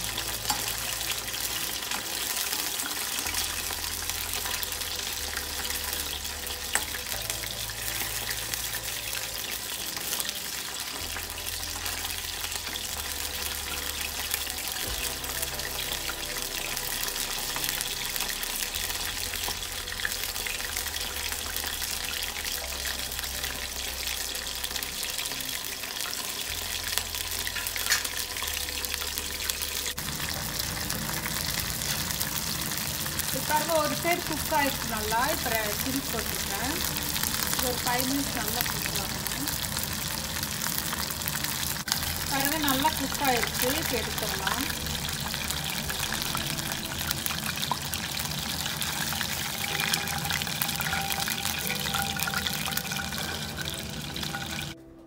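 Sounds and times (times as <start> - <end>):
chicken deep-frying in oil: 0.0 - 54.8.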